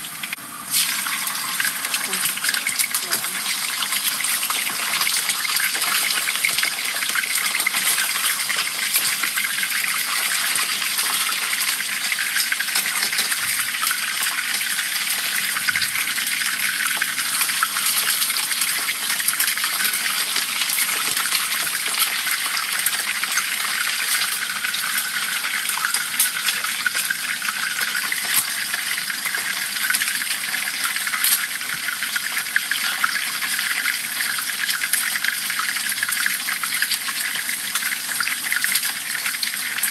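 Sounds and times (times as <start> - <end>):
hot oil sizzling and crackling: 0.0 - 39.9.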